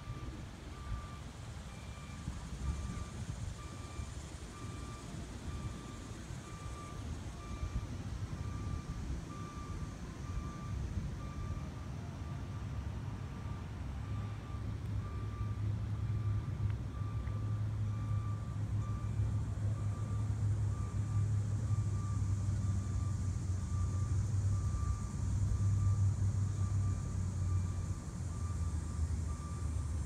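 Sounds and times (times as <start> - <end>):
faint high-pitched beep: 0.0 - 12.6, 13.4 - 30.0.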